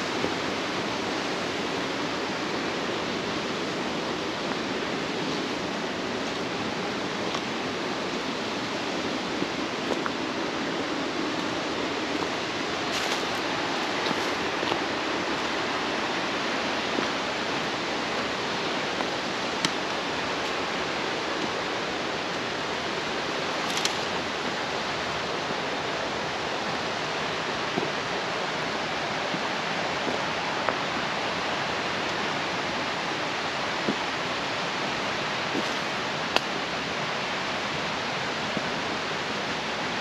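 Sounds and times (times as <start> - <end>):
stream rushing: 0.0 - 40.0.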